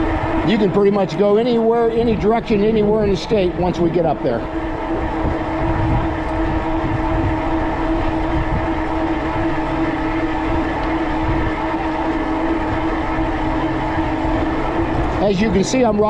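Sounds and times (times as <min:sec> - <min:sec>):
electric motor whine: 0:00.0 - 0:16.0
wind rumble on microphone: 0:00.0 - 0:16.0.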